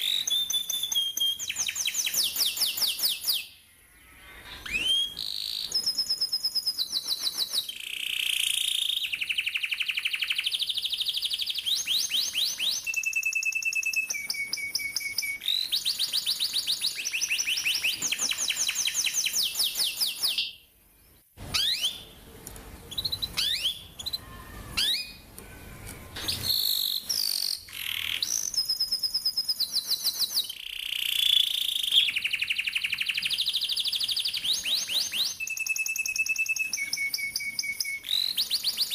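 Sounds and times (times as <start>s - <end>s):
canary singing rolled trills: 0.0s - 38.9s.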